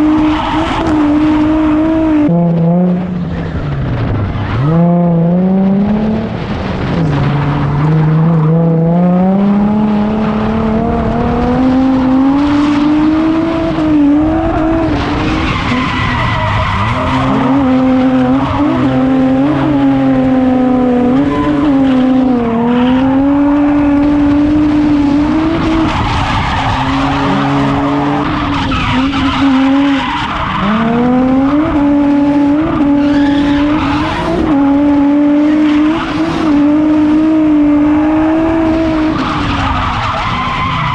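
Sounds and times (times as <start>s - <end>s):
car engine revving high: 0.0s - 40.9s.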